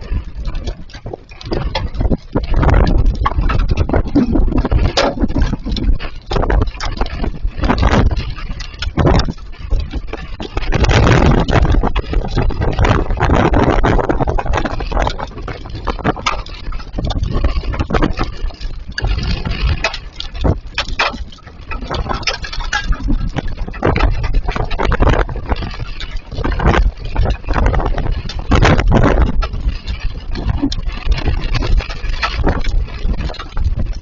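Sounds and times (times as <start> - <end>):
hailstones ticking: 0.0 - 34.0.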